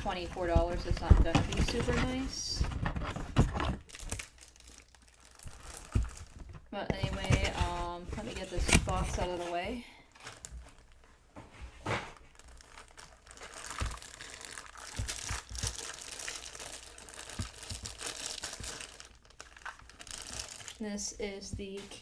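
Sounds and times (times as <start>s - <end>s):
packaging crinkling and rustling: 0.0s - 20.8s.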